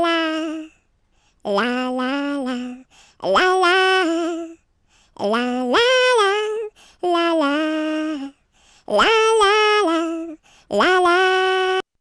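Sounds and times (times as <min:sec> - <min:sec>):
person singing a cappella: 0:00.0 - 0:12.0.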